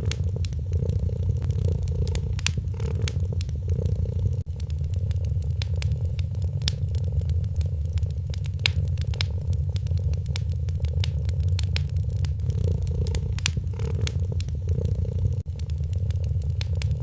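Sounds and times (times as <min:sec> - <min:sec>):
cat purring: 0:00.0 - 0:17.0
wood fire crackling: 0:00.0 - 0:17.0.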